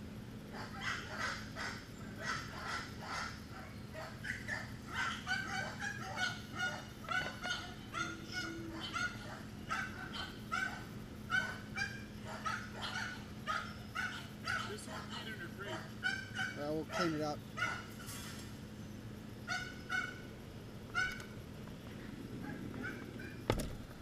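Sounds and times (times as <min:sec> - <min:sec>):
dogs barking: 0:00.5 - 0:18.2, 0:19.4 - 0:21.4, 0:22.4 - 0:23.5.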